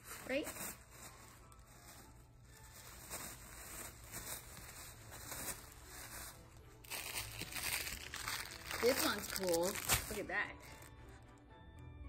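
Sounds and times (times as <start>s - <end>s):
tissue paper rustling: 0.0s - 11.1s.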